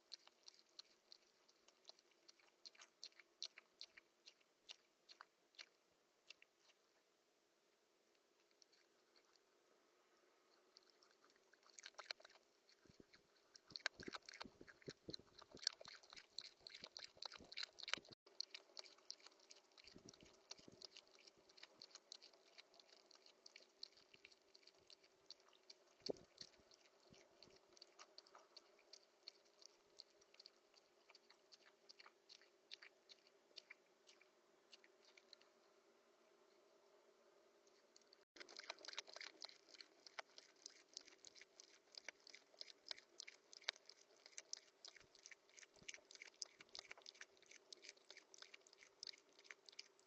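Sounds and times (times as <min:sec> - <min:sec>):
rodent chewing seeds: 0:00.0 - 0:07.1, 0:08.1 - 0:35.9, 0:37.6 - 0:50.0.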